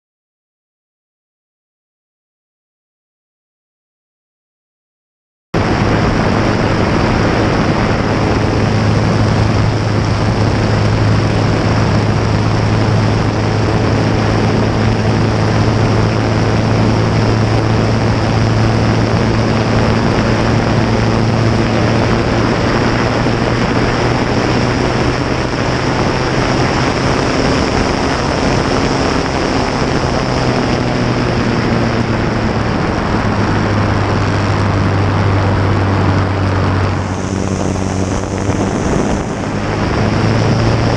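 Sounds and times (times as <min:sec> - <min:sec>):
light aircraft engine and propeller: 0:05.6 - 0:40.9
rushing wind: 0:05.6 - 0:40.9.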